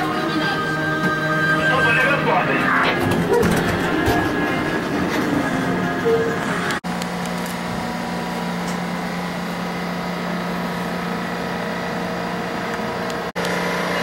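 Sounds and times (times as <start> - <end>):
diesel train humming: 0.0 - 14.0.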